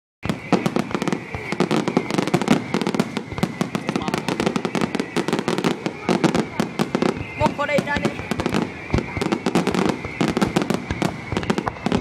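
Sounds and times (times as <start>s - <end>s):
fireworks crackling: 0.2s - 12.0s.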